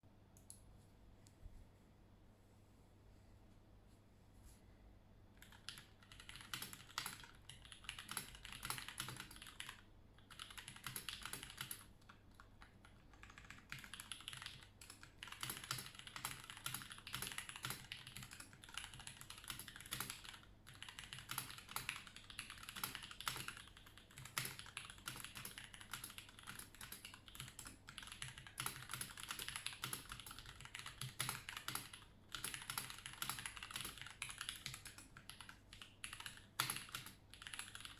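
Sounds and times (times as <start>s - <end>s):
typing on mechanical keyboard: 5.4s - 37.9s.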